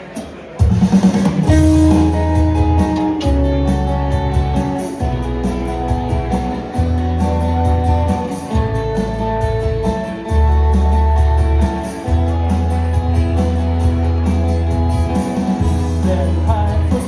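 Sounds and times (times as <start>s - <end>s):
steady drum beat: 0.0s - 17.0s
strummed guitar chords: 0.6s - 17.0s
bass line: 1.5s - 17.0s.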